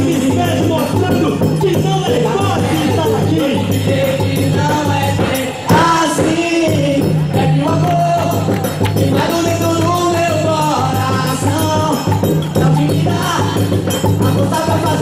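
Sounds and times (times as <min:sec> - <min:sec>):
folk dance music with beat: 0:00.0 - 0:15.0.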